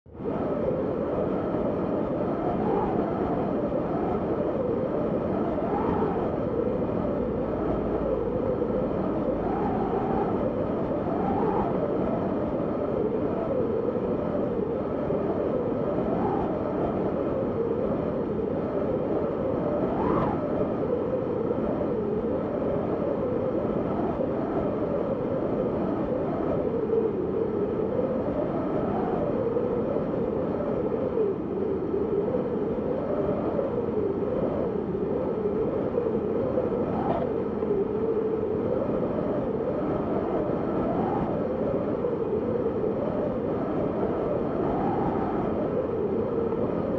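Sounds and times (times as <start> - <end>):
wind howling and whistling: 0.0 - 46.9.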